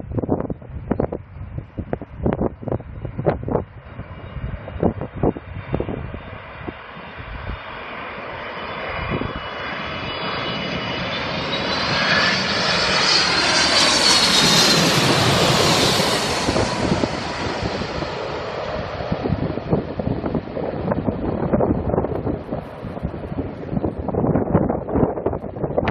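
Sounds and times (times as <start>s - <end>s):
jet airliner passing overhead: 0.0s - 25.9s
wind buffeting microphone: 0.0s - 25.9s.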